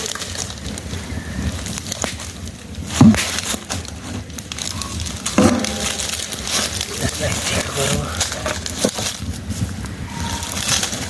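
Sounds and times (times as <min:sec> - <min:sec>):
wood snapping and crackling: 0:00.0 - 0:11.0.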